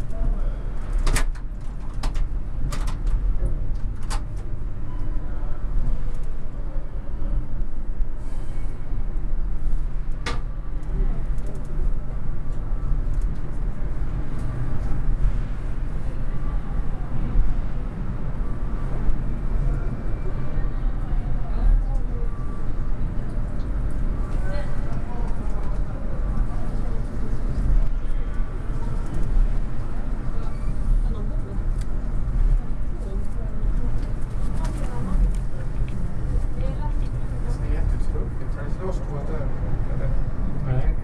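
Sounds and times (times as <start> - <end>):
train rolling rumble: 0.0 - 41.0.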